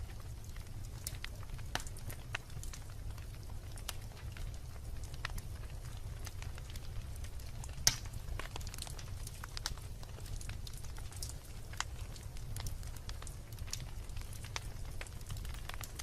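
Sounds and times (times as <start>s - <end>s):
low steady fire rumble: 0.0s - 16.0s
wood logs crackling and popping: 0.0s - 16.0s.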